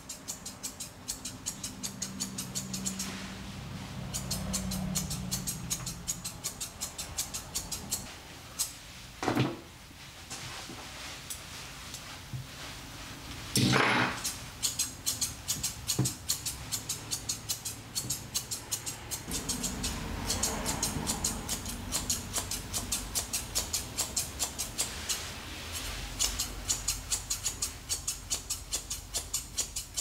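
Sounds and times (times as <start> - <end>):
shears snipping fur: 0.0 - 8.8, 14.1 - 30.0.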